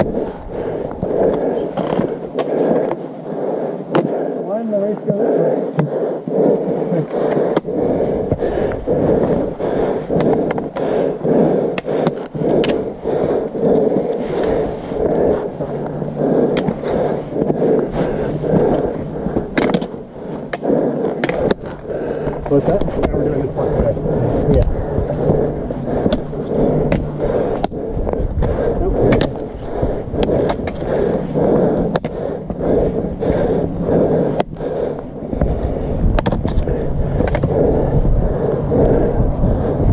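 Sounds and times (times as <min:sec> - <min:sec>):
trekking poles clicking on rock: 0:00.0 - 0:03.1, 0:06.6 - 0:33.6, 0:34.2 - 0:37.6
low rumble: 0:00.0 - 0:04.9, 0:05.6 - 0:39.9.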